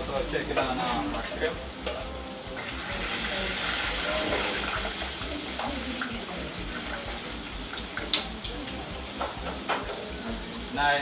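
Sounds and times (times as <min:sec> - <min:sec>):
shrimp sizzling in hot oil: 0:00.0 - 0:11.0.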